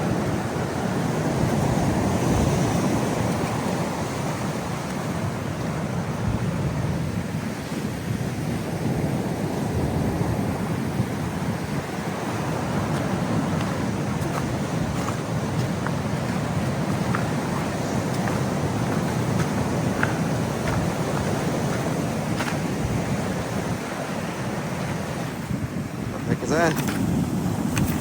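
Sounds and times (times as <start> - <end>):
ocean waves breaking: 0.0 - 28.0
wind noise on microphone: 0.0 - 28.0.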